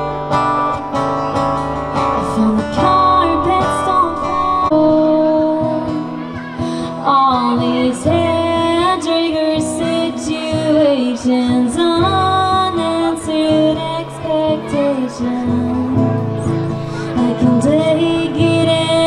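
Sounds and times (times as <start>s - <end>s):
acoustic guitar strumming: 0.0s - 19.0s
woman singing: 2.2s - 6.2s, 6.8s - 16.2s, 17.2s - 19.0s.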